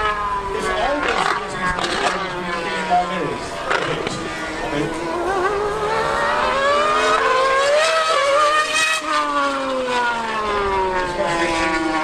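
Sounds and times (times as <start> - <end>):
racing engine accelerating hard: 0.0 - 12.0.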